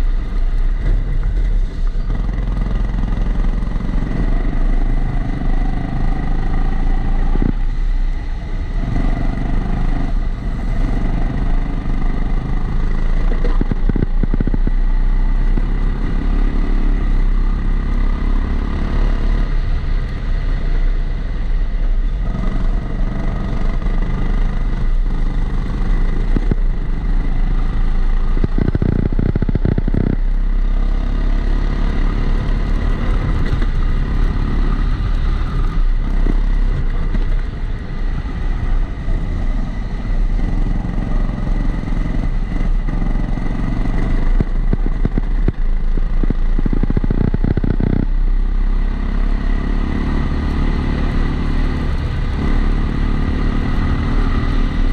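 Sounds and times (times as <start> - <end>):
kart engine with high whine: 0.0 - 54.9.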